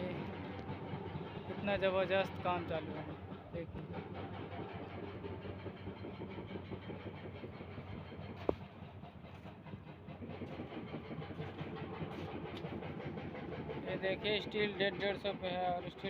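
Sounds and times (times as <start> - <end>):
machine engine running: 0.0 - 16.0.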